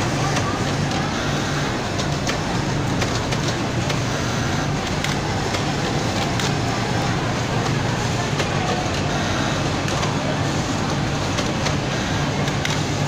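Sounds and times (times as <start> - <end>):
machines din: 0.0 - 13.0.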